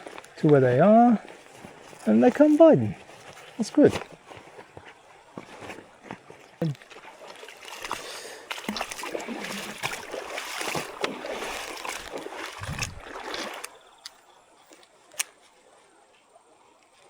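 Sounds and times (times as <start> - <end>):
water sloshing and splashing: 0.0 - 14.1
creek water running: 0.0 - 17.0.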